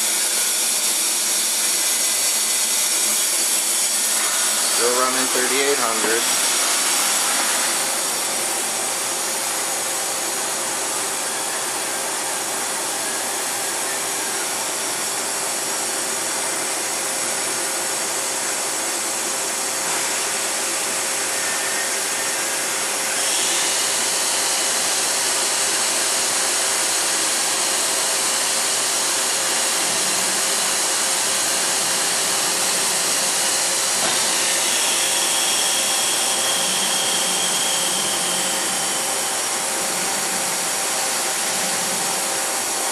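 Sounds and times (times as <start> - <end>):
machine spindle whirring hiss: 0.0 - 15.5, 19.8 - 42.9.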